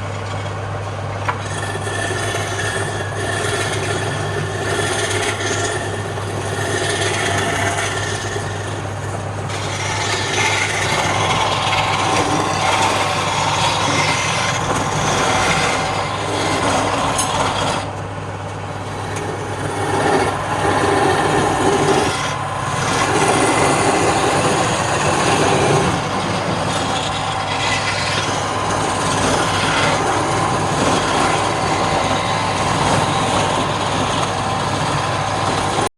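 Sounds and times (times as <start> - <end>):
tool scraping spinning wood: 1.2 - 35.9
wood lathe motor hum: 1.2 - 35.9.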